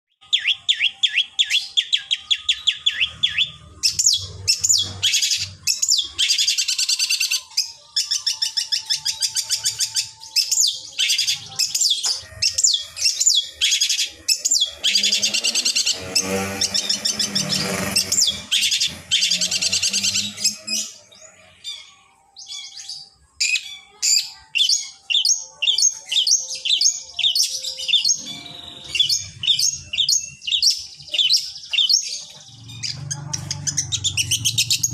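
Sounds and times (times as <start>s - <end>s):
bird singing trills and chatter: 0.2s - 34.9s.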